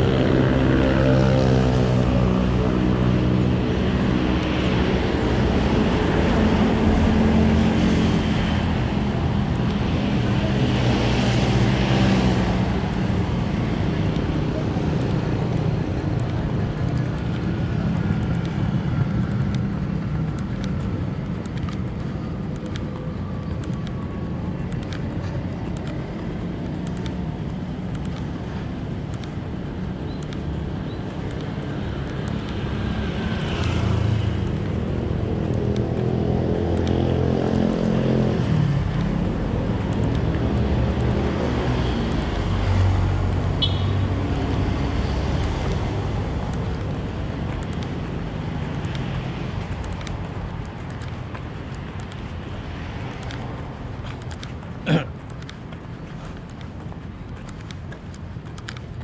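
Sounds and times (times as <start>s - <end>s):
vehicle passing: 0.0s - 59.0s.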